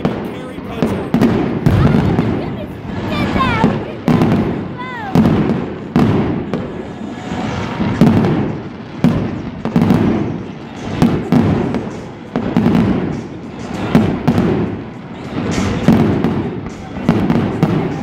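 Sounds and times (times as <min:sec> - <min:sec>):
fireworks booming: 0:00.0 - 0:18.0.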